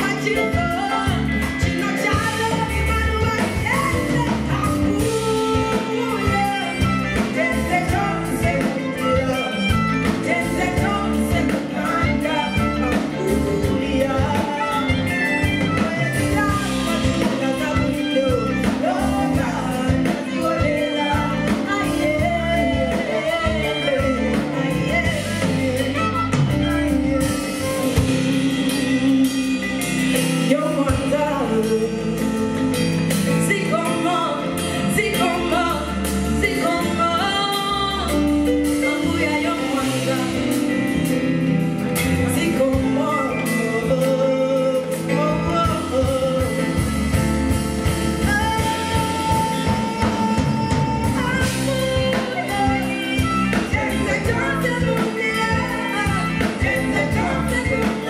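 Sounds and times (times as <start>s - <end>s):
bass: 0.0s - 58.0s
drum kit: 0.0s - 58.0s
electric guitar: 0.0s - 58.0s
keyboard: 0.0s - 58.0s
woman singing: 0.0s - 58.0s.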